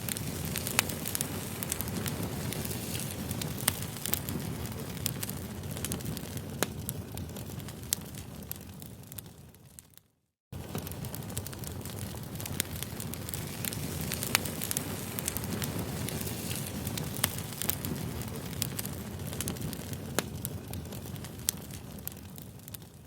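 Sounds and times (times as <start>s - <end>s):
campfire pops and snaps: 0.0s - 10.0s, 10.6s - 23.0s
low rumble of burning wood: 0.0s - 23.0s.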